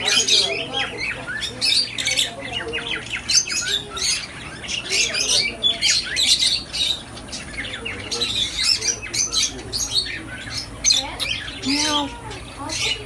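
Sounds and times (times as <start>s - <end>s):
parrots chattering and screeching: 0.0s - 13.0s.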